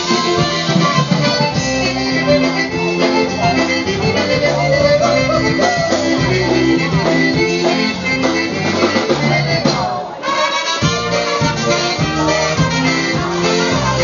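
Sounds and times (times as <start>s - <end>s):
bass line: 0.0s - 10.1s, 10.8s - 14.0s
polka band playing: 0.0s - 14.0s
trumpets: 0.0s - 14.0s.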